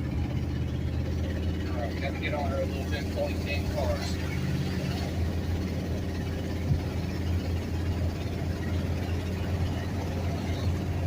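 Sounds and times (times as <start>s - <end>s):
truck engine and road drone: 0.0s - 11.0s.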